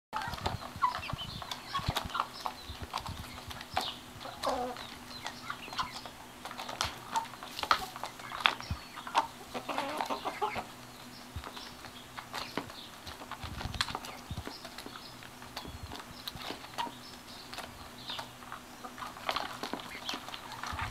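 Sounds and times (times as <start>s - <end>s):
hens clucking softly: 0.2s - 20.9s.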